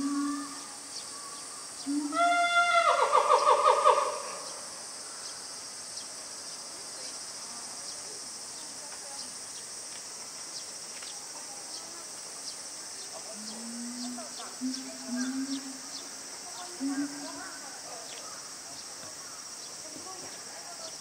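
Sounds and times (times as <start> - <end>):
loud buzzing insect call: 0.0 - 9.7, 11.7 - 19.9
cicadas droning: 0.0 - 21.0.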